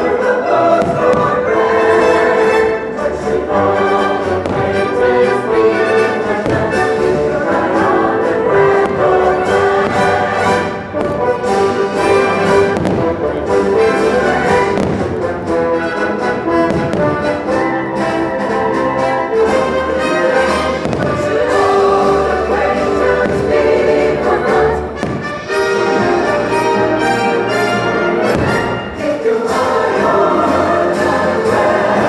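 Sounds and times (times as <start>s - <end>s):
fireworks exploding: 0.0s - 32.0s
orchestral music with brass: 0.0s - 32.0s.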